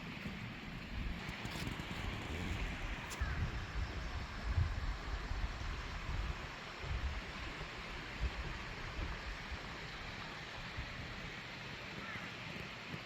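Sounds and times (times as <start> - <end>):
wind rumbling on microphone: 0.0 - 11.4.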